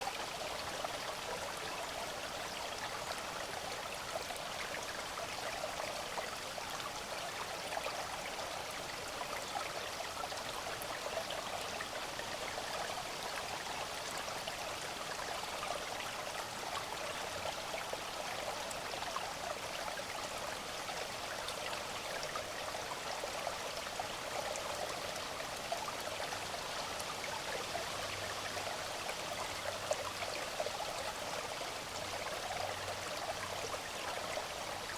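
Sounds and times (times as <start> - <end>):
brook babbling over rocks: 0.0 - 34.9.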